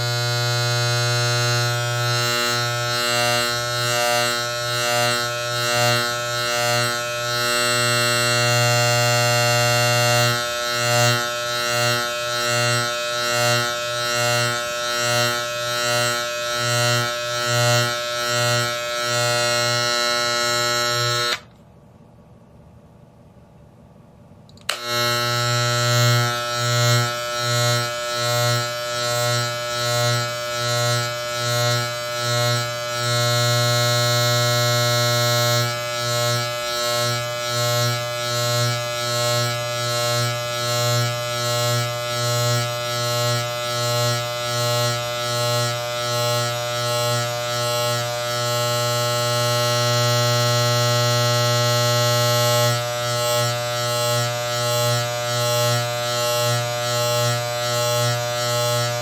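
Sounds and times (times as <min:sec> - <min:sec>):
electric hair clipper buzzing: 0:00.0 - 0:21.6, 0:24.5 - 0:59.0.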